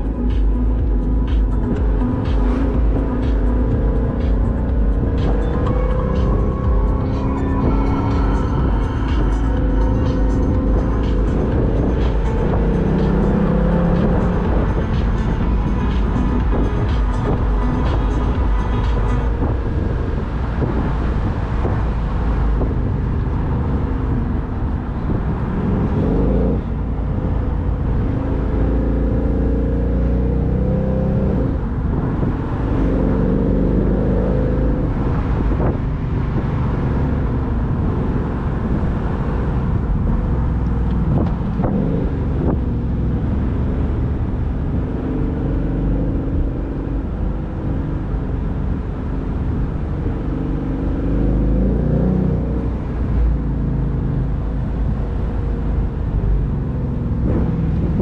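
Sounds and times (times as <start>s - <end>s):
car engine accelerating: 0.0s - 58.0s
wind rumble: 0.0s - 58.0s.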